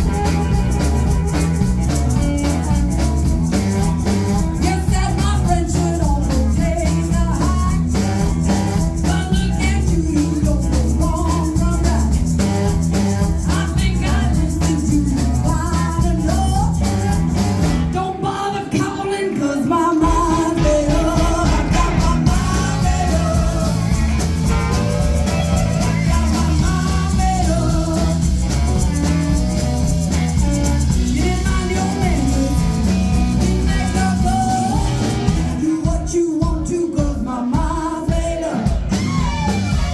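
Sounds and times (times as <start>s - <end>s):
live rock and roll band: 0.0s - 39.9s.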